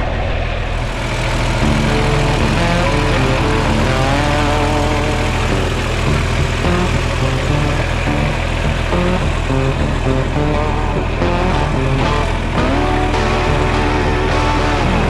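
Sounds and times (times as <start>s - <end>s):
diesel tractor engine running: 0.8s - 15.0s
music playing: 0.9s - 15.0s.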